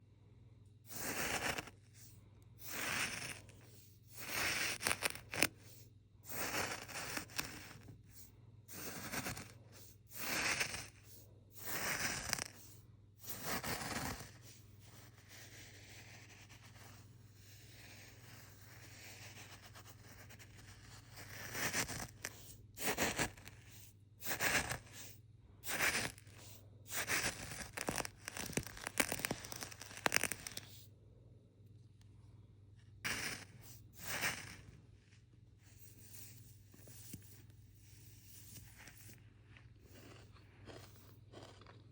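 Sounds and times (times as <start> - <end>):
sand shifting in a straw: 0.9 - 2.0, 2.6 - 30.8, 33.0 - 41.0.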